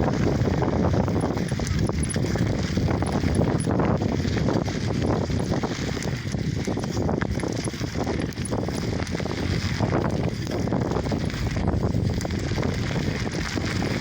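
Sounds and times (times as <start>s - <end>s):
bicycle rattling and clattering: 0.0s - 14.0s
tyre and wind rumble: 0.0s - 14.0s.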